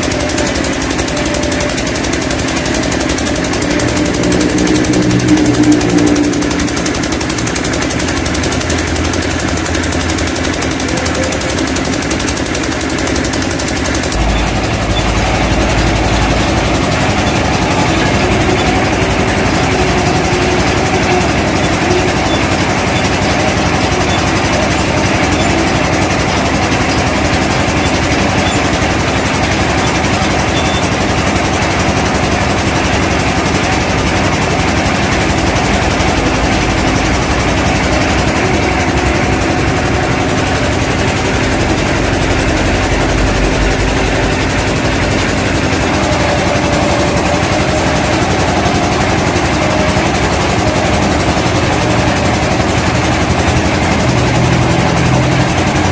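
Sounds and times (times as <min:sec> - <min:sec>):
heavy truck engine idling: 0:00.0 - 0:55.9.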